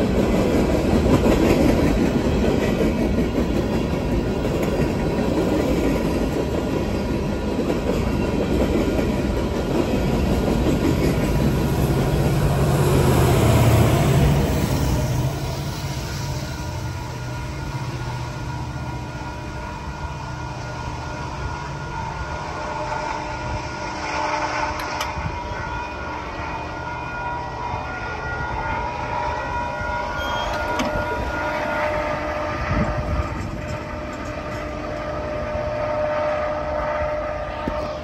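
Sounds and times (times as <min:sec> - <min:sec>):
high-pitched wheel ringing on rail: 0:00.0 - 0:38.0
train wheels rumbling over rails: 0:00.0 - 0:38.0.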